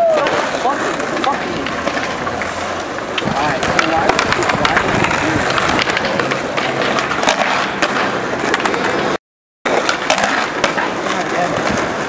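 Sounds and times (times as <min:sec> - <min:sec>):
skateboard wheels rumbling: 0:00.0 - 0:12.0.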